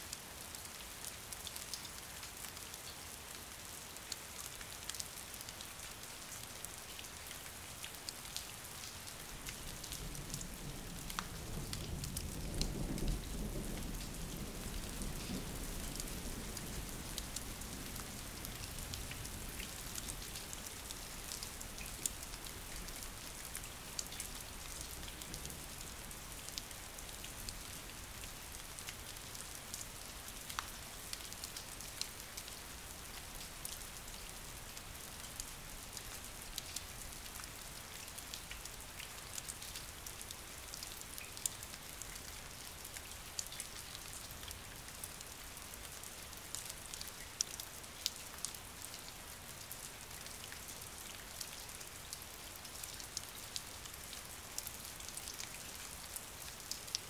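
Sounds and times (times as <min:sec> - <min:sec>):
rain on a hard surface: 0:00.0 - 0:57.0.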